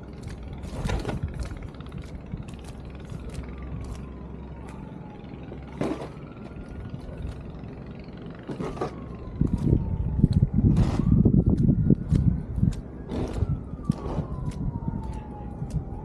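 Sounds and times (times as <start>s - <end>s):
emergency siren wailing: 0.0s - 16.0s
rough vehicle rumble: 0.0s - 16.0s
street traffic rumble: 0.0s - 16.0s.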